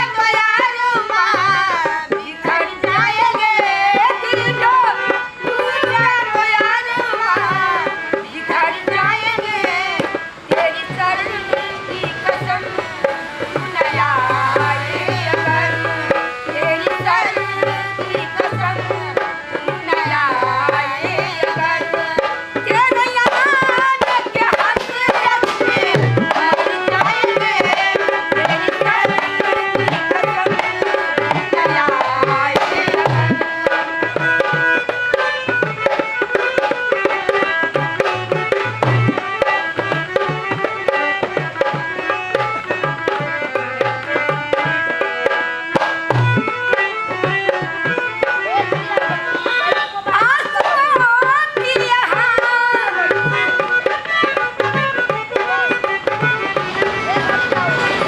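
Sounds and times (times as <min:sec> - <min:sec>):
ornamented melody line: 0:00.0 - 0:58.0
tabla beat: 0:00.0 - 0:58.0.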